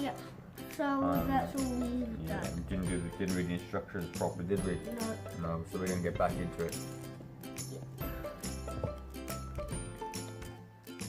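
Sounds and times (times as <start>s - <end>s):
background music with regular beat: 0.0s - 11.0s.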